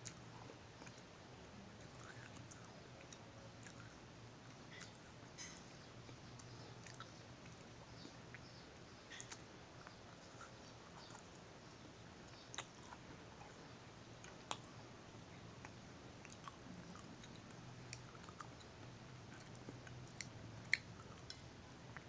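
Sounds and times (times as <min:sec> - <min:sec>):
chewing crunchy cookie: 0:00.0 - 0:01.1, 0:01.7 - 0:22.0.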